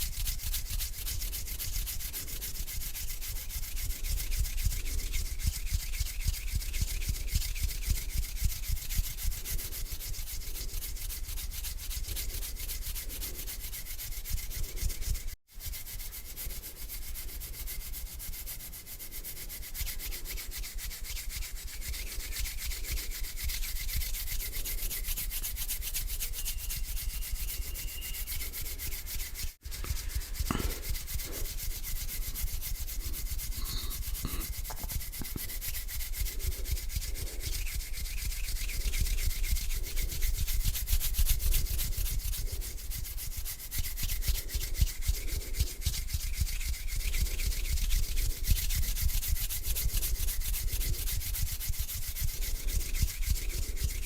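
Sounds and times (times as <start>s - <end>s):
hands rubbing together: 0.0s - 54.0s.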